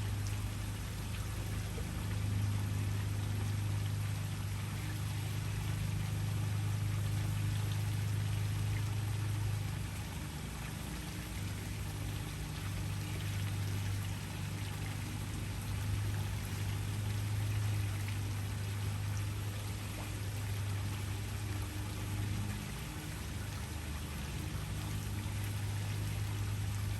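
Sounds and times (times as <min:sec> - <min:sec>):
low hum: 0:00.0 - 0:26.9.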